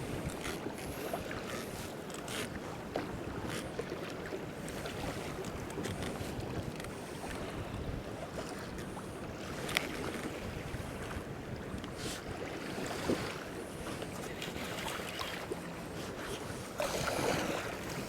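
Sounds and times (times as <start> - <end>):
wind on microphone: 0.0 - 1.9, 4.7 - 18.0
water lapping against kayak hull: 0.0 - 18.0.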